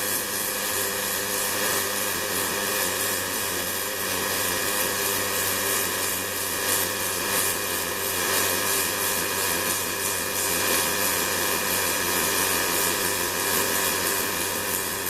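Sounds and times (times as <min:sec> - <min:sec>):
welding arc hiss: 0:00.0 - 0:15.0.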